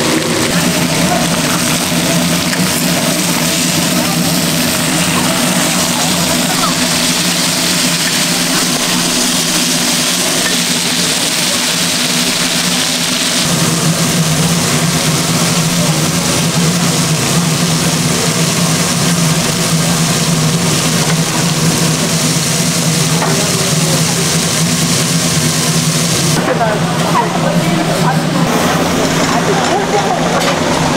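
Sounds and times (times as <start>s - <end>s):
machine hum: 0.0s - 30.9s.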